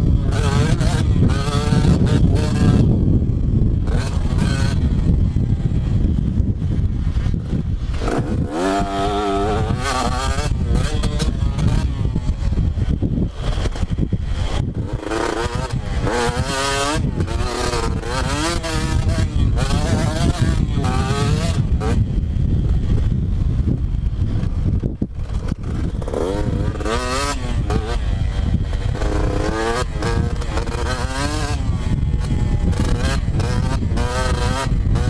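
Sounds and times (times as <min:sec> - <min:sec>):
heavy low rumble: 0:00.0 - 0:35.0
motocross bike engine revving: 0:00.0 - 0:35.0.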